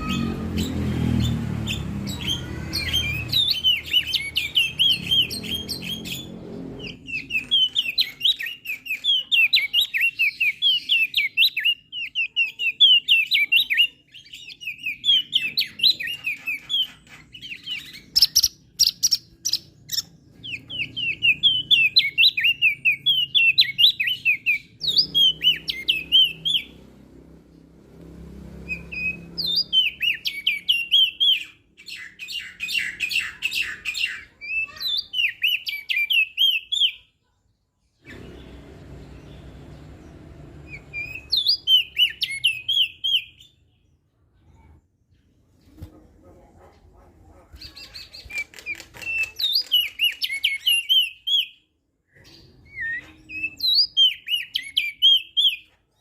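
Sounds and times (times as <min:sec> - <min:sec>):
bird twittering song: 0:00.0 - 0:56.0.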